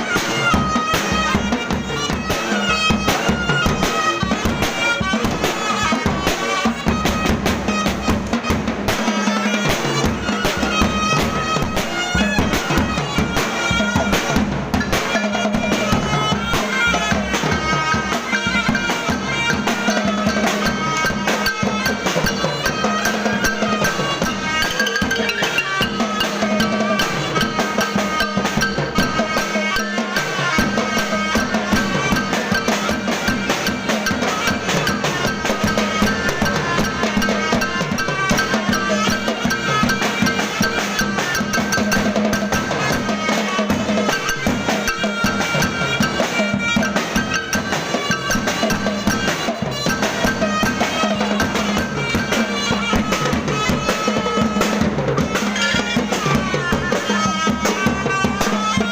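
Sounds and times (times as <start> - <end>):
drums gongs and cymbals: 0.0 - 58.9.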